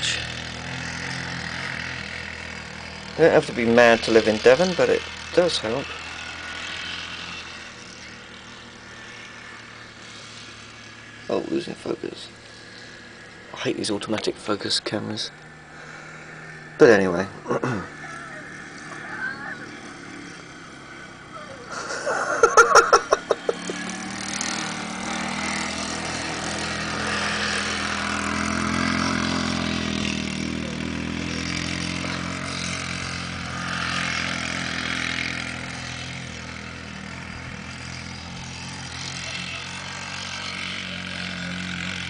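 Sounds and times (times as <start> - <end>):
distant quad bike engine: 0.0 - 42.0.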